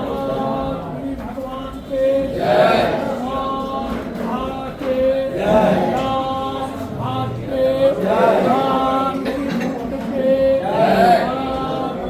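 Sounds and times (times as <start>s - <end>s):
men singing a chant: 0.0s - 12.0s.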